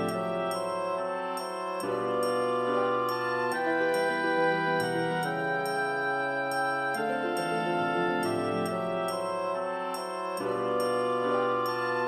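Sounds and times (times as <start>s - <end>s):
background music with chiming melody: 0.0s - 12.0s.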